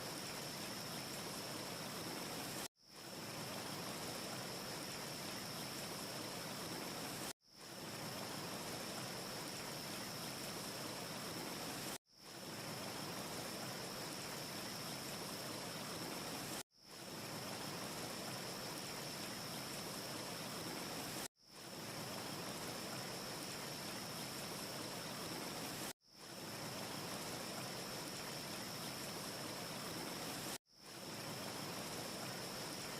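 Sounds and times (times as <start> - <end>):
rushing wind-like hiss: 0.0 - 32.9.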